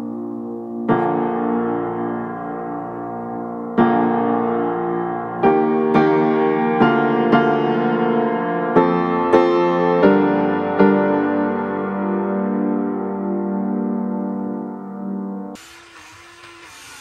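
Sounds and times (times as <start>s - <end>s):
piano music: 0.0s - 15.6s.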